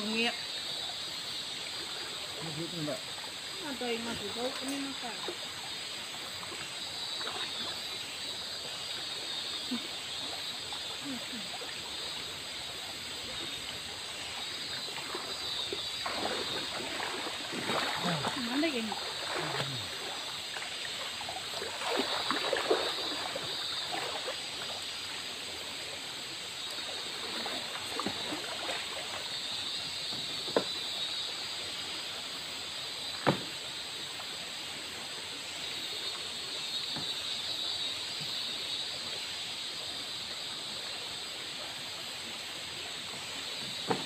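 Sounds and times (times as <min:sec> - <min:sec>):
light water splashes: 0:01.5 - 0:38.5.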